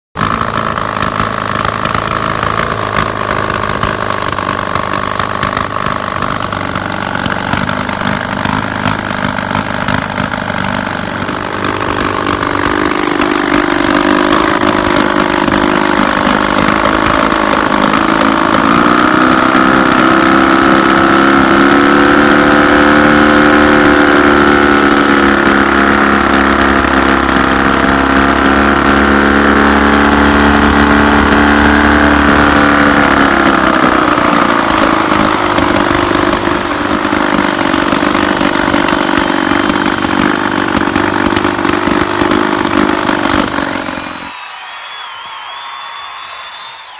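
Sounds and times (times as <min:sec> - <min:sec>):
two-stroke engine running unmuffled: 0:00.2 - 0:45.2.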